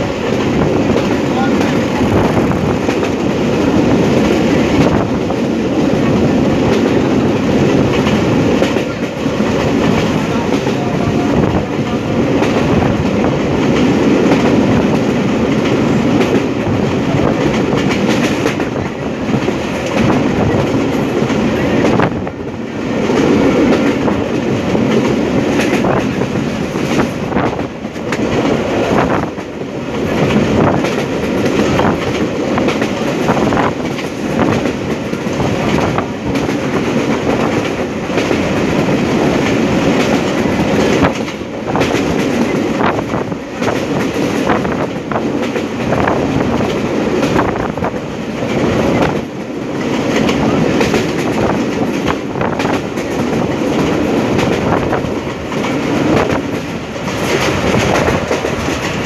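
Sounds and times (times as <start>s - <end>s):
train wheels rumbling on rails: 0.0s - 59.0s
clatter at rail joints: 0.3s - 59.0s.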